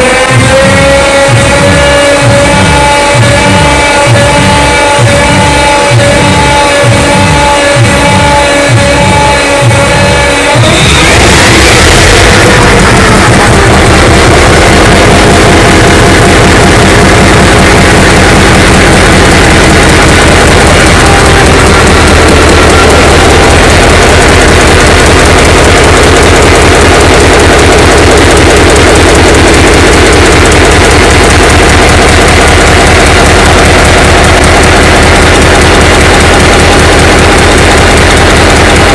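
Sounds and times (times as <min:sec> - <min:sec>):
large engine running loudly: 0:00.0 - 0:38.9.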